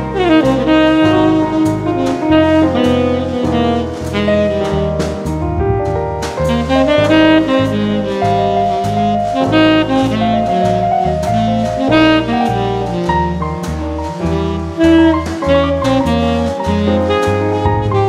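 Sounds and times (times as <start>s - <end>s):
instrumental jazz music: 0.0s - 18.0s.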